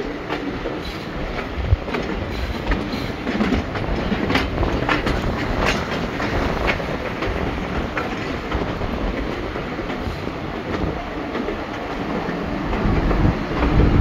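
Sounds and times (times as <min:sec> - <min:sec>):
train coach rumble: 0:00.0 - 0:14.0
wheels clicking over rail joints: 0:00.2 - 0:14.0.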